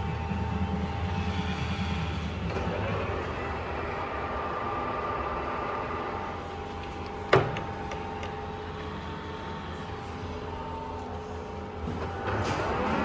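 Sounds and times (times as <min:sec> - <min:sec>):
lathe running with whining hum: 0:00.0 - 0:13.0.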